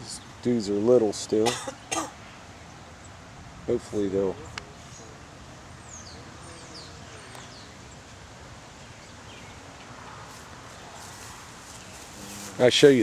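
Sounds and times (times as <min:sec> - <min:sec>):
low wind noise: 0:00.0 - 0:13.0.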